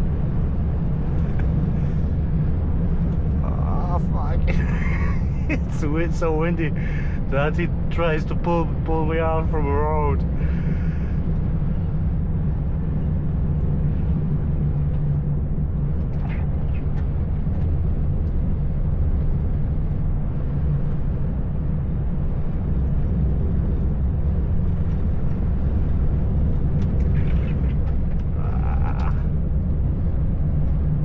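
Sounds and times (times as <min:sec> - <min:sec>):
road noise: 0:00.0 - 0:31.0
strong wind: 0:00.0 - 0:31.0
truck engine drone: 0:00.0 - 0:31.0.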